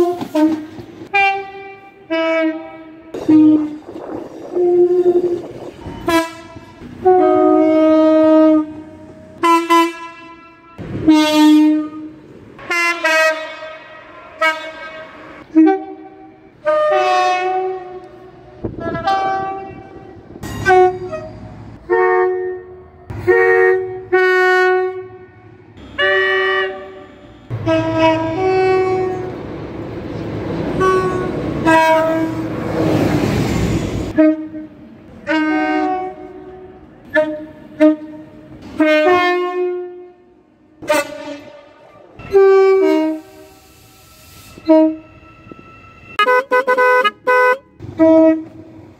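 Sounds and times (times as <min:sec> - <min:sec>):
train horn blasts: 0:00.0 - 0:29.4, 0:30.7 - 0:32.6, 0:34.1 - 0:48.9
passing train rushing: 0:00.0 - 0:48.9.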